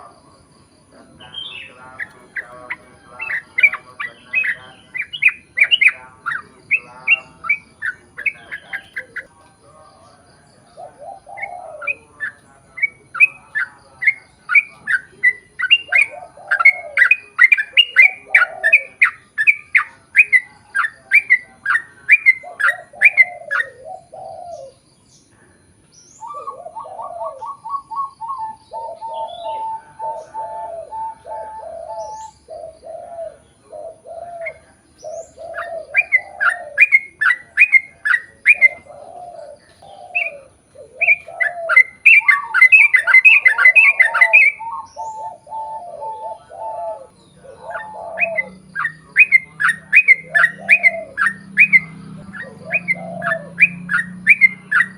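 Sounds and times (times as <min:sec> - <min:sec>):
bulbuls singing chattering song: 0:00.0 - 0:54.9.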